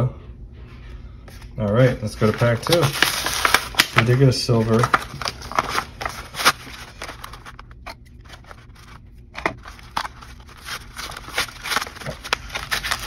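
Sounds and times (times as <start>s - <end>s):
card pack wrapper tearing: 2.2s - 13.0s.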